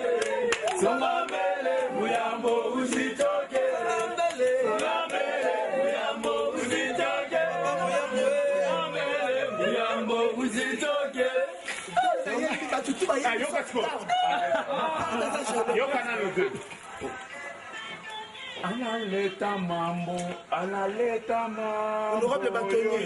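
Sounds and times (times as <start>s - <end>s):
men chanting and singing: 0.0s - 23.0s.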